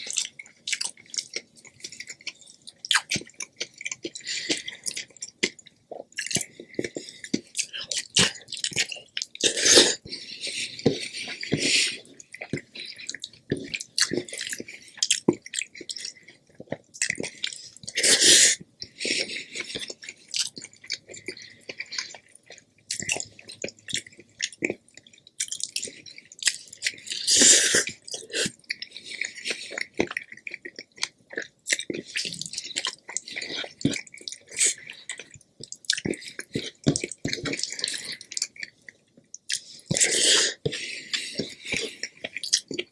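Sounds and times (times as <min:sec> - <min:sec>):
chewing with wet mouth sounds: 0:00.0 - 0:42.9.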